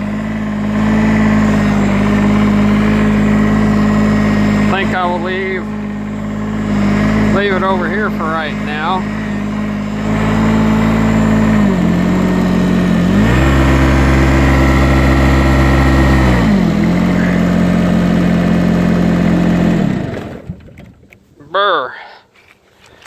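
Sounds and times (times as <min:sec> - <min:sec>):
small diesel tractor engine idling: 0:00.0 - 0:20.8.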